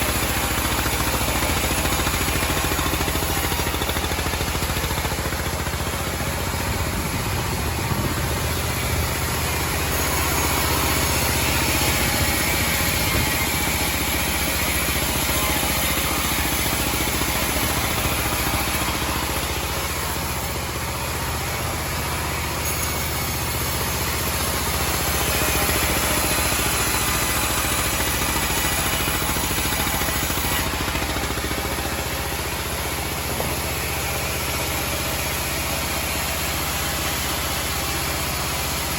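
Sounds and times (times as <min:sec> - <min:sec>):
band sawmill hum and whirr: 0:00.0 - 0:38.9.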